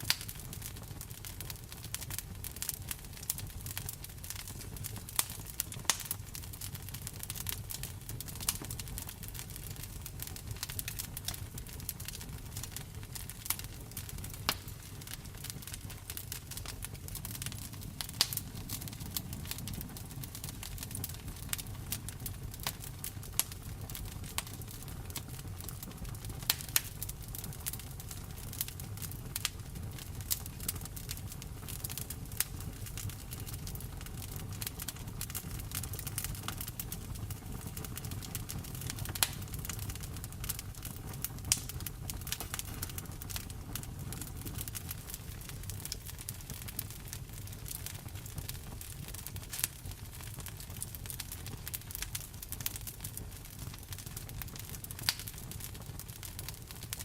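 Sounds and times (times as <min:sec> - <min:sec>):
rumble of flames: 0:00.0 - 0:57.0
wood fire crackling and popping: 0:00.0 - 0:57.0.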